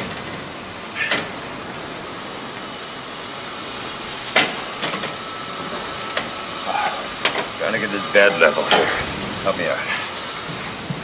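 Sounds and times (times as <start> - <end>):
machinery hiss and hum: 0.0 - 11.0.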